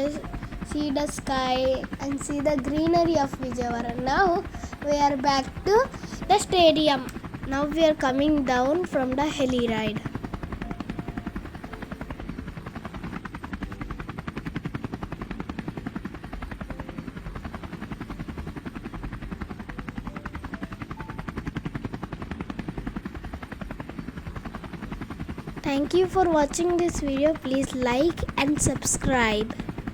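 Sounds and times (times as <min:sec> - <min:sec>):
helicopter engine running: 0:00.0 - 0:29.9
helicopter rotor chopping: 0:00.0 - 0:29.9.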